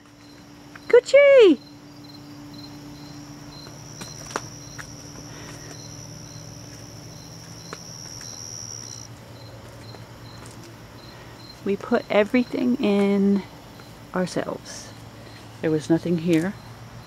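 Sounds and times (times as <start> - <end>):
continuous high insect trill: 0.0 - 17.0
cricket chirping: 0.0 - 17.0.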